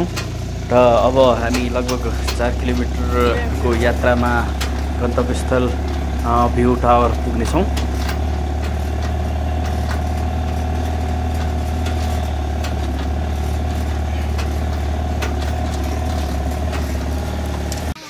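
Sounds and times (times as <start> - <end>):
knocks and rattles: 0.0 - 18.0
truck engine running: 0.0 - 18.0.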